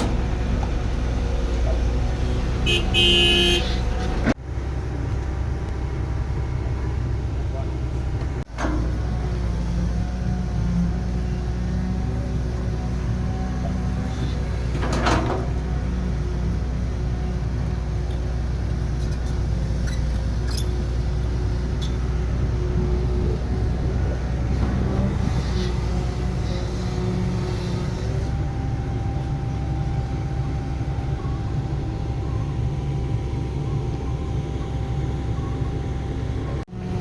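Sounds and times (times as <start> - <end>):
heavy machinery engine humming: 0.0 - 37.0.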